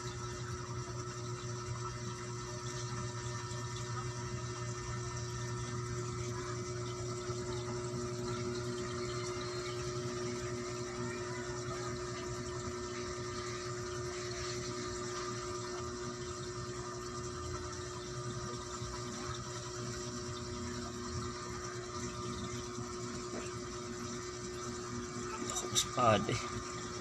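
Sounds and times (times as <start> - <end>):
aquarium pump humming: 0.0 - 27.0
water trickling and splashing: 0.0 - 27.0.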